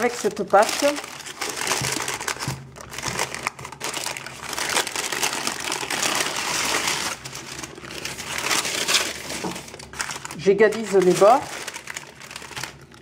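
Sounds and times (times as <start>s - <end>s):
baking parchment crinkling: 0.0s - 13.0s.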